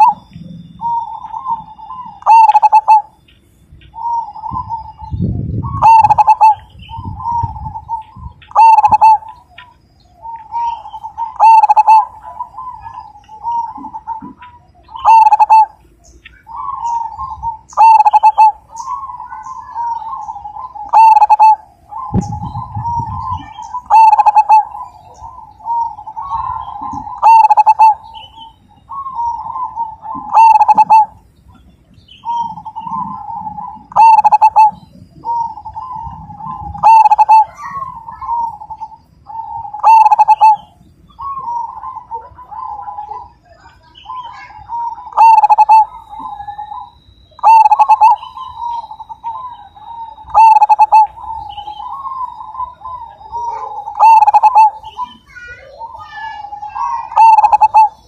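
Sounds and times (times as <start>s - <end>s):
dove cooing: 0.0s - 3.2s, 3.8s - 58.0s.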